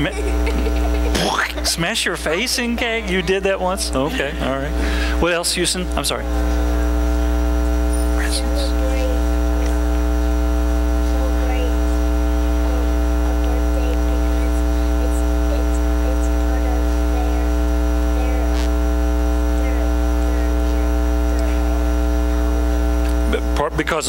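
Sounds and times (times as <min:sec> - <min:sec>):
electrical mains hum: 0:00.0 - 0:24.0
faint voices: 0:00.0 - 0:24.0.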